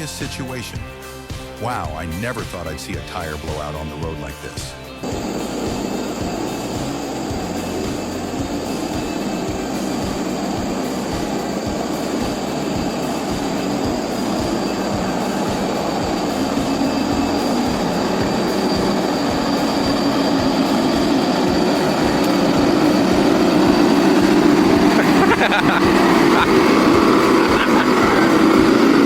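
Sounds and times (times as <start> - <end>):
faint high whine: 5.0 - 29.0.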